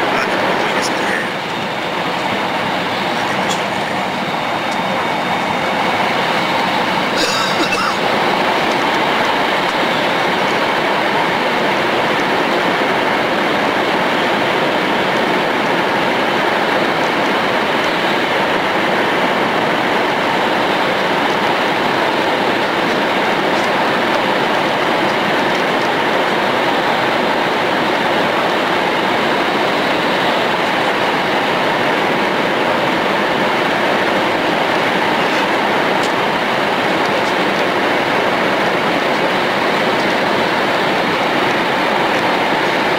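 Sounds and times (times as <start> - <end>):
train rushing rumble: 0.0 - 42.9.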